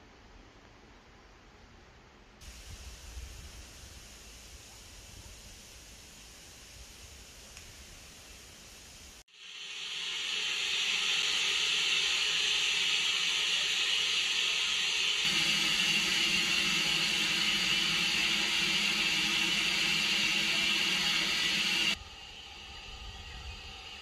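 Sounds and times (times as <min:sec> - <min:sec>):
steam hissing: 0:02.4 - 0:24.0.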